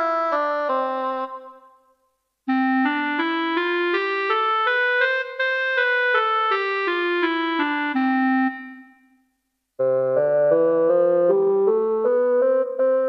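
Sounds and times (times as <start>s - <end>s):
electronic keyboard notes: 0.0s - 1.7s, 2.5s - 9.0s, 9.8s - 13.0s.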